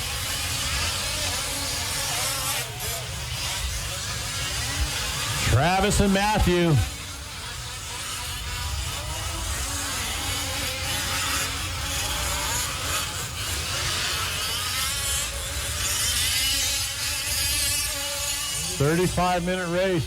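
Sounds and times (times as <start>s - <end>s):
rc truck engines buzzing: 0.0s - 20.0s.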